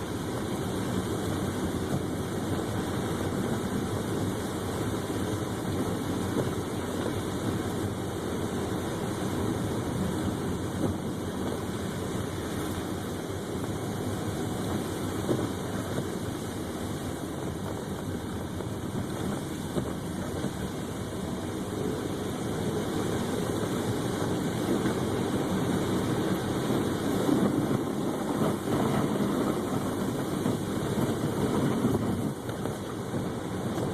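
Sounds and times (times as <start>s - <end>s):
car engine and road noise: 0.0s - 33.9s.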